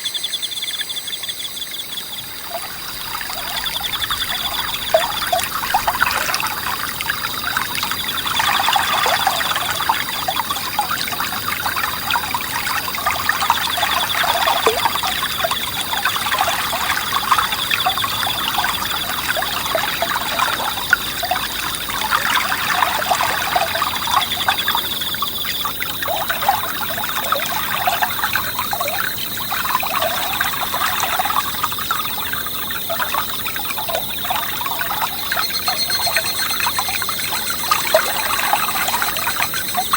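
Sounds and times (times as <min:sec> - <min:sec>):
insects trilling: 0:00.0 - 0:39.9
stream trickling over stones: 0:01.6 - 0:39.9.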